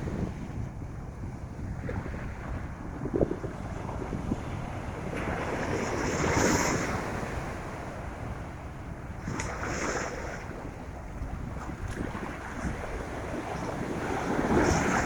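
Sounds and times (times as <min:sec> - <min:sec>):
ocean waves washing onto beach: 0:00.0 - 0:15.0
wind buffeting microphone: 0:00.0 - 0:15.0.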